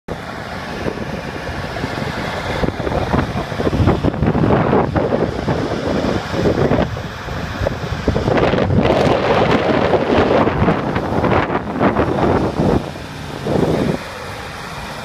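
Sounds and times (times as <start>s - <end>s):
steady low rumble: 0.1s - 15.0s
wind buffeting microphone: 0.1s - 15.0s.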